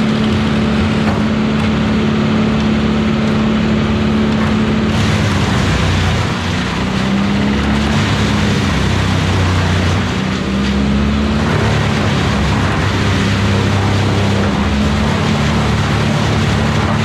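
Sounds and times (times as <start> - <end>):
cutter drum whirring: 0.0 - 17.0
wood chipper engine running: 0.0 - 17.0.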